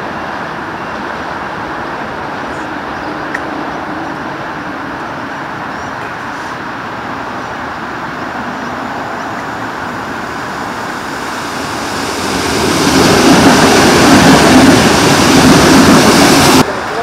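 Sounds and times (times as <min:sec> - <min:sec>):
electric train wheels on rail: 0:00.0 - 0:17.0.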